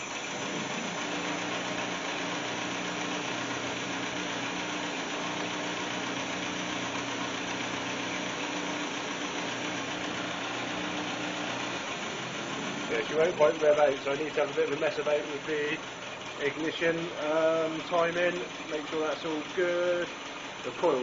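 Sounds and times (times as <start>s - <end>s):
petrol engine idling: 0.0s - 21.0s.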